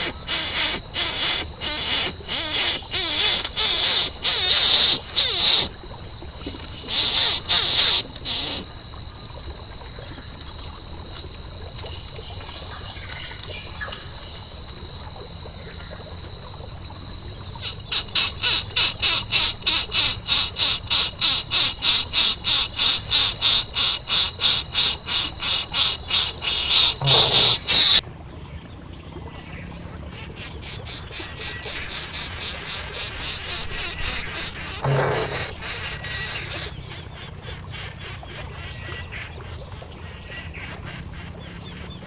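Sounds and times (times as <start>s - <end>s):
insects and frogs chirping: 0.0s - 42.0s.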